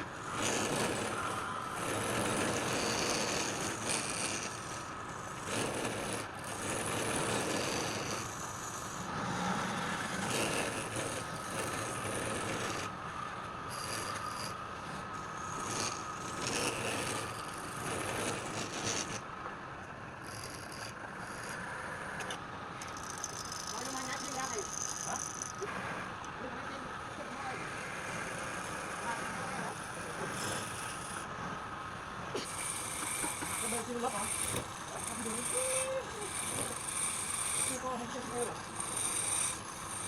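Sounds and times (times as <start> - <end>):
tool scraping spinning wood: 0.0 - 13.0, 13.7 - 19.2, 20.2 - 31.6, 32.4 - 40.0
wood lathe whine: 0.0 - 19.6, 20.2 - 40.0.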